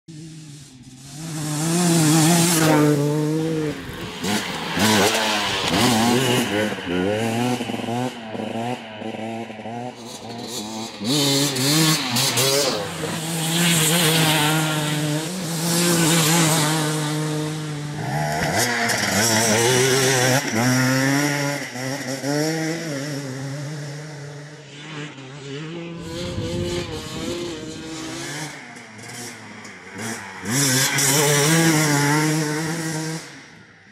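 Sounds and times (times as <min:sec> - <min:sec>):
dirt bike engine revving: 0:00.1 - 0:33.8.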